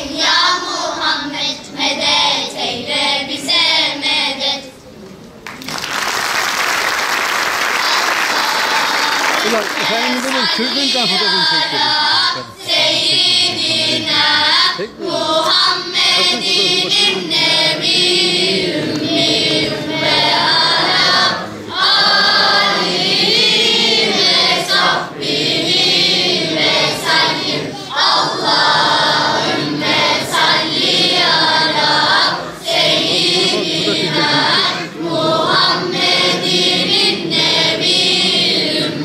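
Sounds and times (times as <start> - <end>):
children's choir singing: 0.0 - 4.8, 7.1 - 39.0.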